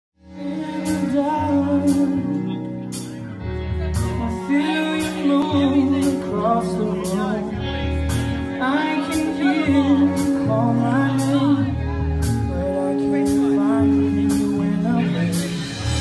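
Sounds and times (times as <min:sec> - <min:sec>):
man singing: 0:00.2 - 0:16.0
rock band playing: 0:00.2 - 0:16.0.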